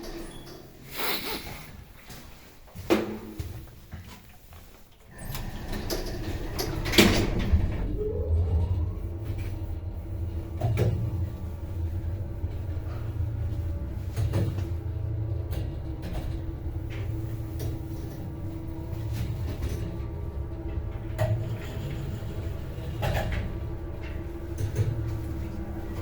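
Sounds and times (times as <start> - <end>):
elevator motor hum: 5.2 - 26.0.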